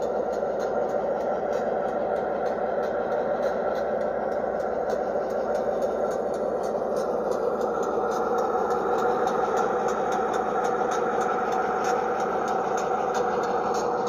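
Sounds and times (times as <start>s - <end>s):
diesel engine idling sound: 0.0s - 14.0s
faint regular ticking: 0.0s - 14.0s.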